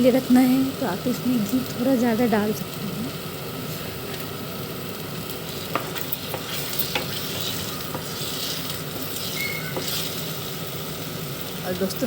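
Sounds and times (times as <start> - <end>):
paste sizzling in a pan: 0.0 - 12.0.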